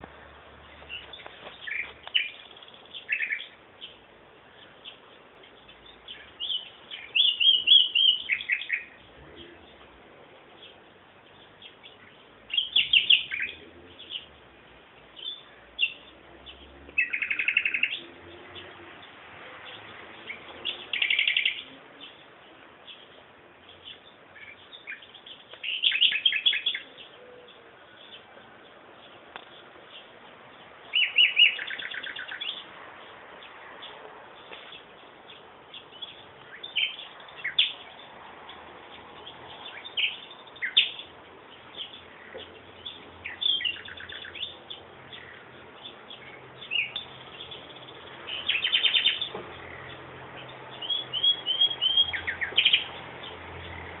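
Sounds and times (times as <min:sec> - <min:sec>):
songbirds trilling: 0:00.0 - 0:54.0.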